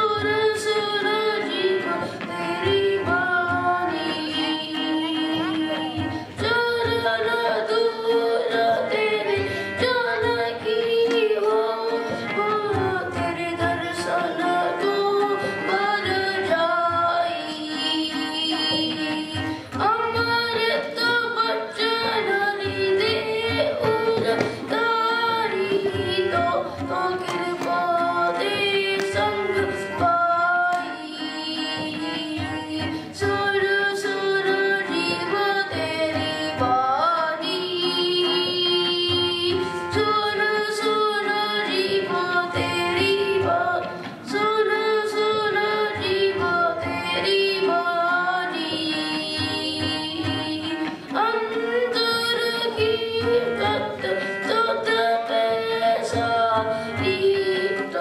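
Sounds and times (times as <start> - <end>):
child singing a hymn: 0.0 - 58.0
harmonium: 0.0 - 58.0
tabla drumming: 0.0 - 58.0.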